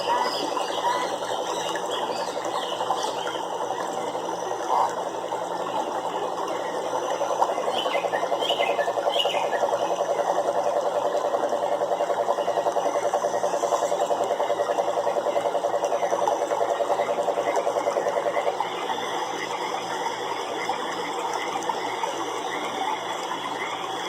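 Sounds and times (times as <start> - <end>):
frogs calling in trills: 0.0 - 24.0.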